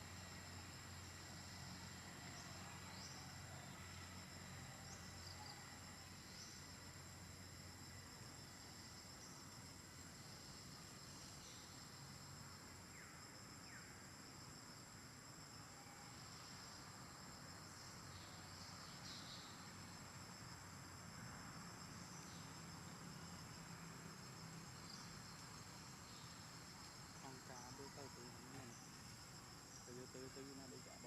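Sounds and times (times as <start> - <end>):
crickets trilling: 0.0 - 31.0.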